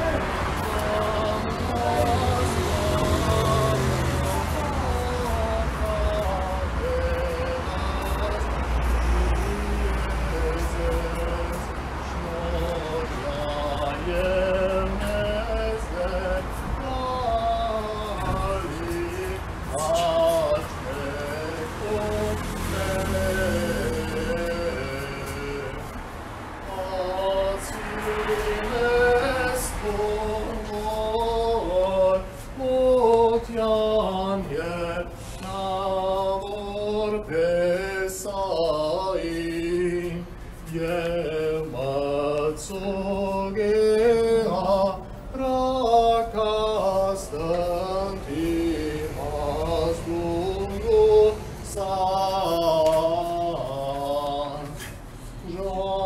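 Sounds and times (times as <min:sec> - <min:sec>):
voices singing a chant: 0:00.0 - 0:56.0.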